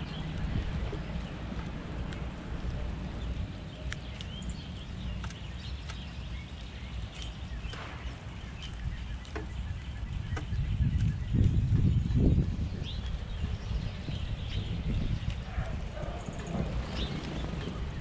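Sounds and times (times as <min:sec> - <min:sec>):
low outdoor rumble: 0:00.0 - 0:18.0
small birds chirping: 0:00.0 - 0:18.0.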